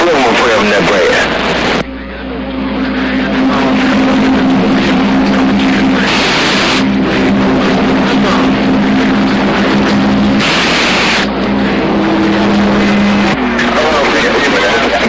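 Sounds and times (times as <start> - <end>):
low droning radio tones: 0.0 - 15.0
radio static hiss: 0.0 - 15.0.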